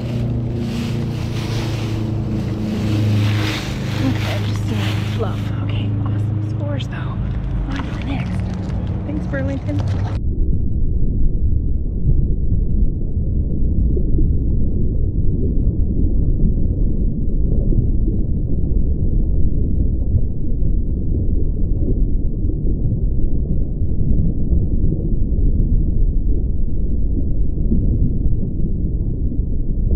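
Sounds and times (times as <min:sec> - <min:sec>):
muffled low rumble: 0:00.0 - 0:29.9.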